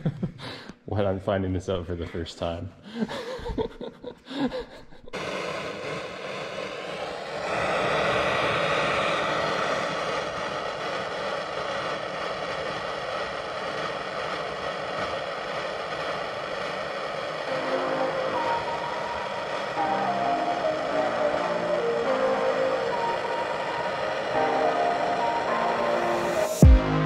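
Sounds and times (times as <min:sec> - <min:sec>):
steady machine noise: 0:05.2 - 0:27.0.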